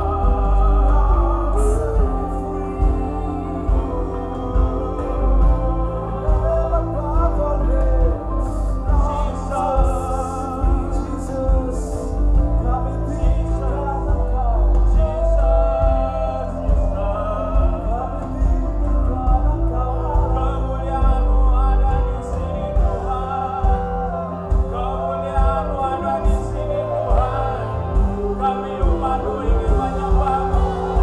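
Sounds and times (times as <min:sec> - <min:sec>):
choir singing with band: 0:00.0 - 0:31.0
held bass notes: 0:00.0 - 0:31.0.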